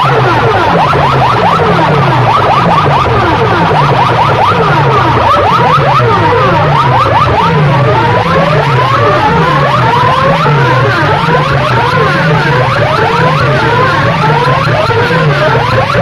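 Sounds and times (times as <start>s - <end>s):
pulsing low beat: 0.0s - 16.0s
siren-like electronic sweeps: 0.0s - 16.0s.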